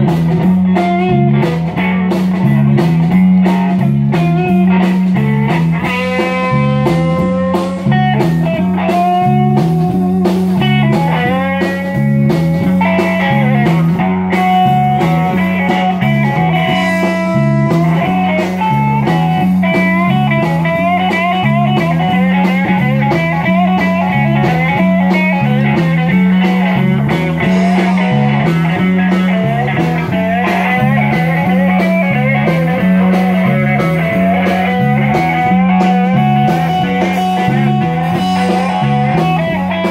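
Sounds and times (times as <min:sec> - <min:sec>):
bass line: 0:00.0 - 0:39.9
electric guitar lead: 0:00.0 - 0:39.9
steady drum beat: 0:00.0 - 0:39.9.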